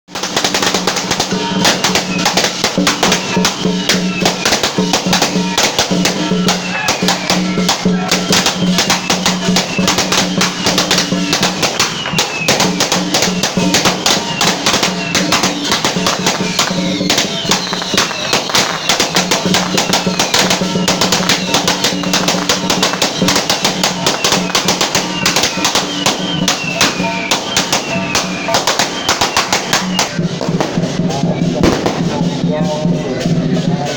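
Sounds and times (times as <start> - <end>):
drums gongs and cymbals: 0.1 - 33.9
firecrackers crackling: 0.1 - 33.9.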